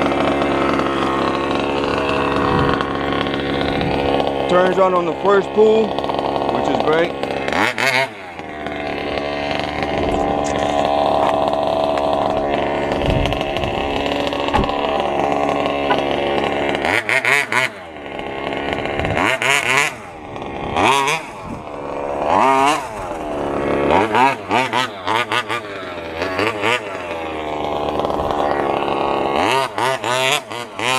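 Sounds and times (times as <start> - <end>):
two-stroke engine revving: 0.0 - 30.9.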